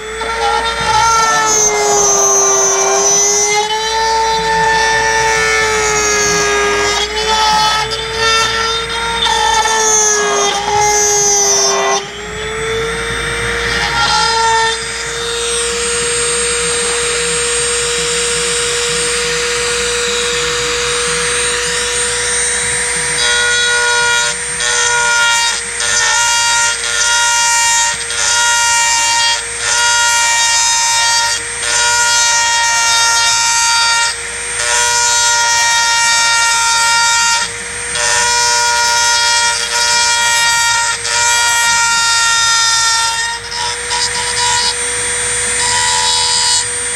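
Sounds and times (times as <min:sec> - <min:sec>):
rotary tool high whine: 0:00.0 - 0:46.9.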